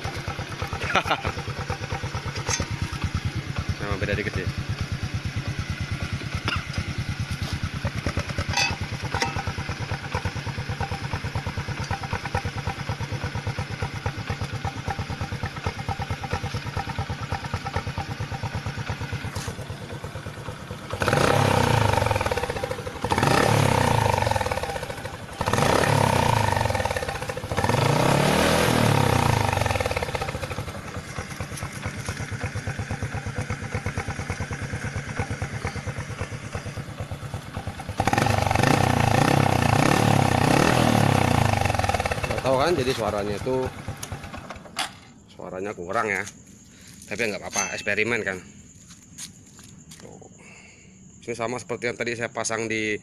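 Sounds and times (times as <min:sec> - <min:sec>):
motorcycle engine revving: 0:00.0 - 0:45.1
motorcycle engine idling: 0:00.0 - 0:51.2.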